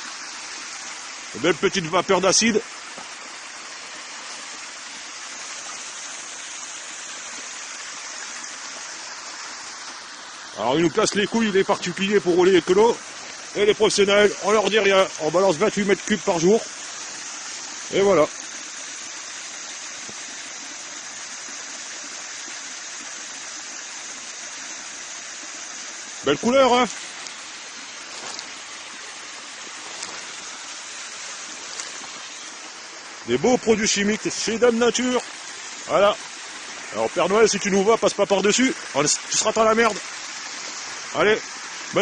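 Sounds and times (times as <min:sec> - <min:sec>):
pouring liquid hiss: 0:00.0 - 0:42.0.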